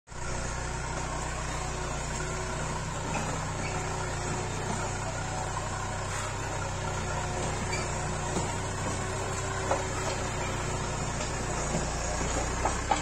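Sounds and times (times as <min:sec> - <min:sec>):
tractor diesel engine running: 0:00.1 - 0:13.0.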